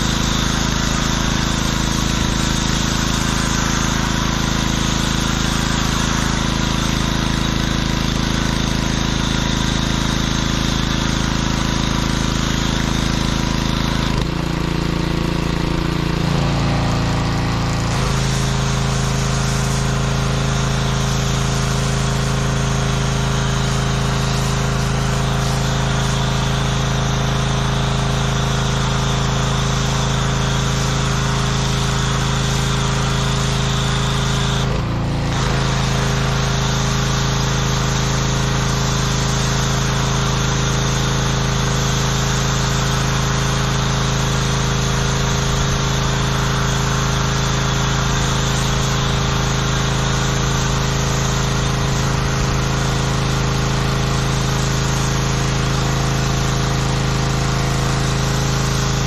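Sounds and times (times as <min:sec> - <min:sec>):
hiss of soap spray: 0:00.0 - 0:14.2, 0:15.7 - 0:59.0
pressure washer engine running: 0:00.0 - 0:59.0.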